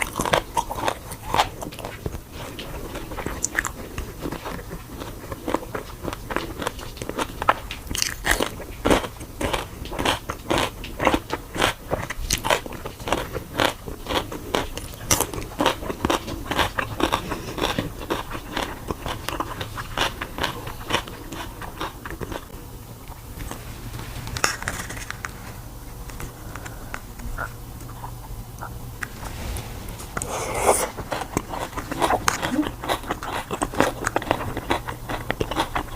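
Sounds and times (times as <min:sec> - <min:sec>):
crunchy food being chewed: 0:00.0 - 0:29.5, 0:30.2 - 0:35.9.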